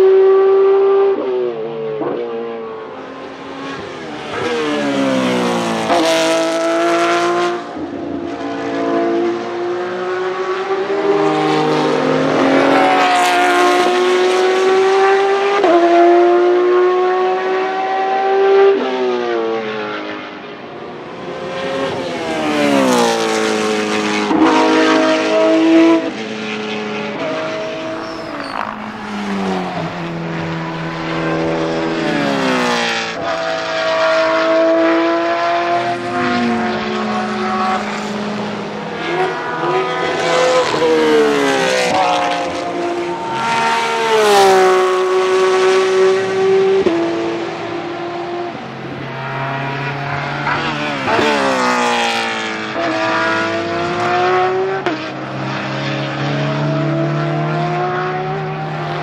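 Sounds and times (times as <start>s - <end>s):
race car engines accelerating: 0.0s - 59.0s.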